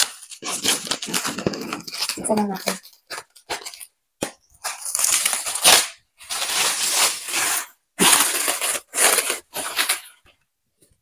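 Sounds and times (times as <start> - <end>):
plastic wrap crinkling and tearing: 0.0 - 10.2.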